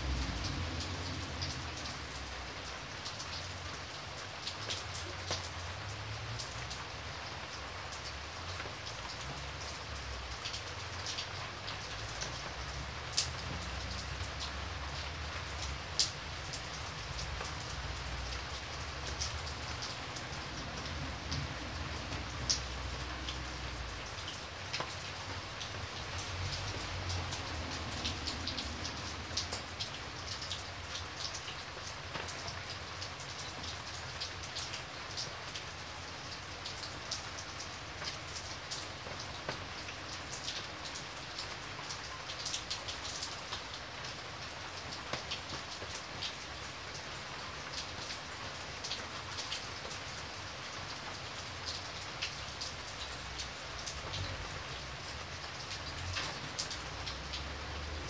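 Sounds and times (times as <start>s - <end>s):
raindrops ticking: 0.0s - 58.0s
steady rain falling: 0.0s - 58.0s.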